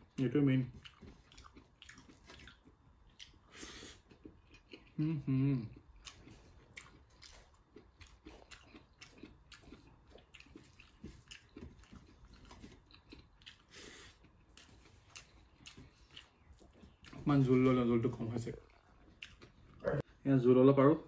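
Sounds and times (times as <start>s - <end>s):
person chewing: 0.0s - 17.5s, 18.5s - 20.1s.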